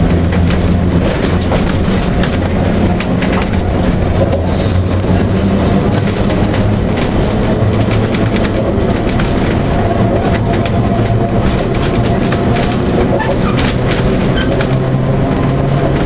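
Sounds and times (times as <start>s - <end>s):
tram wheels rumbling: 0.0s - 16.0s.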